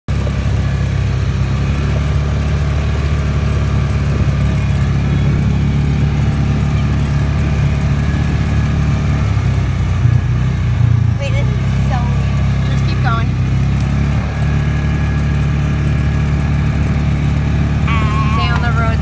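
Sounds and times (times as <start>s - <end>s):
utility vehicle engine running: 0.1s - 19.0s.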